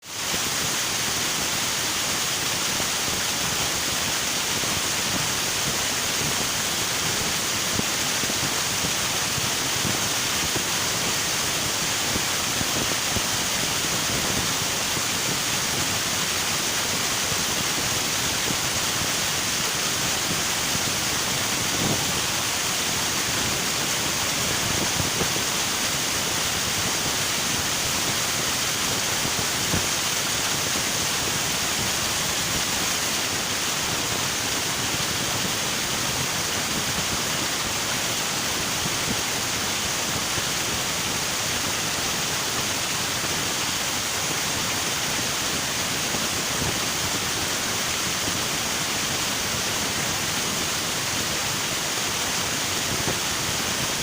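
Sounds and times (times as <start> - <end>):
river rushing over rocks: 0.1 - 54.0.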